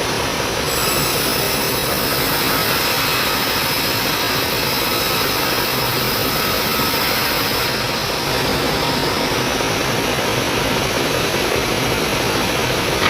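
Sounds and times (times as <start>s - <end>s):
sawmill saw running: 0.4s - 13.0s.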